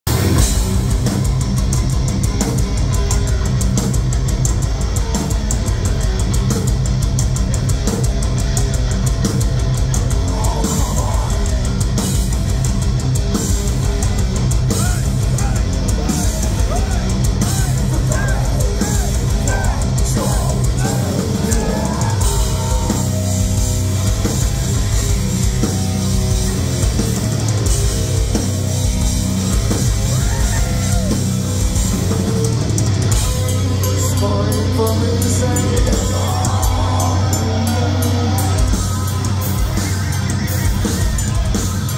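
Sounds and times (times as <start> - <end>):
bass guitar: 0.0 - 41.9
distorted electric guitars: 0.0 - 41.9
driving drumming: 0.0 - 41.9
bending lead guitar lines: 0.1 - 41.9.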